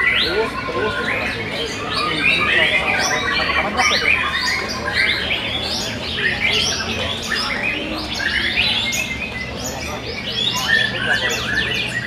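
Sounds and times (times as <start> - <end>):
birds singing whistled phrases: 0.0 - 12.0.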